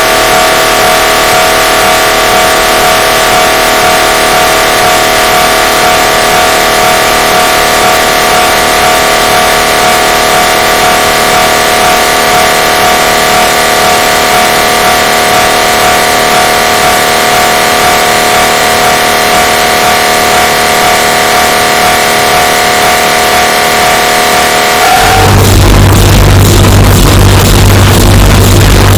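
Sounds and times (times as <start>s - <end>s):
mri scanner drone: 0.0s - 28.9s.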